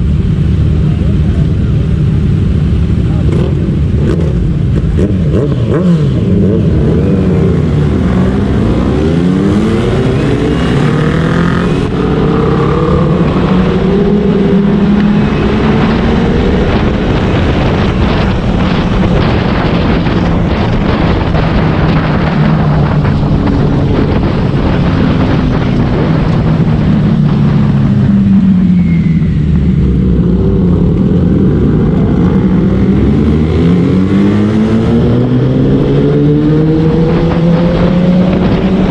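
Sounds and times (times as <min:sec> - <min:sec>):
constant rush of noise: 0:00.0 - 0:38.9
motorcycle engine accelerating: 0:00.0 - 0:38.9.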